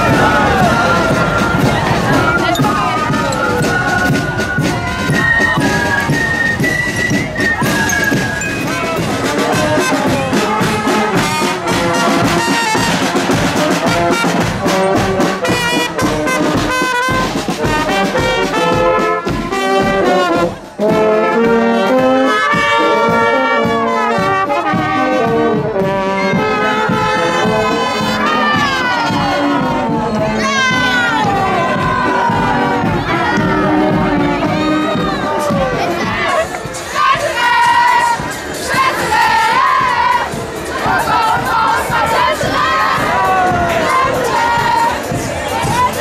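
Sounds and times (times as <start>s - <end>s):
brass band playing held notes: 0.0s - 46.0s
drum strokes: 0.0s - 46.0s.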